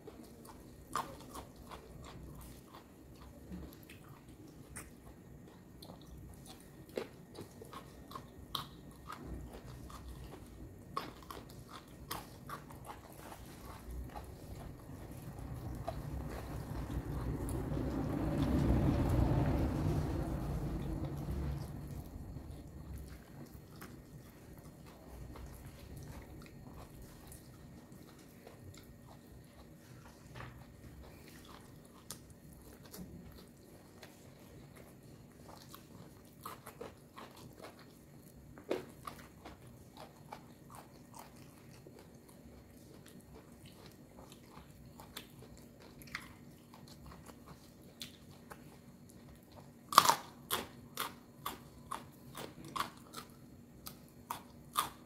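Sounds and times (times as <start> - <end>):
person chewing crunchy vegetables: 0.0 - 55.0.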